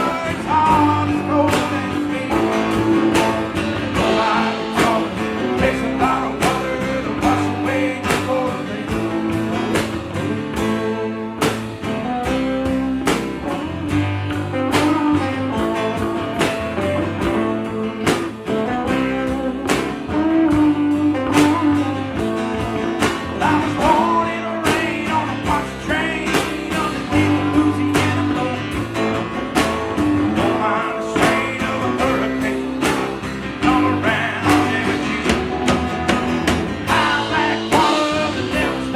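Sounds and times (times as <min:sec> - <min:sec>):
band playing a song: 0:00.0 - 0:38.9
drum beat: 0:00.0 - 0:38.9
guitar: 0:00.0 - 0:38.9.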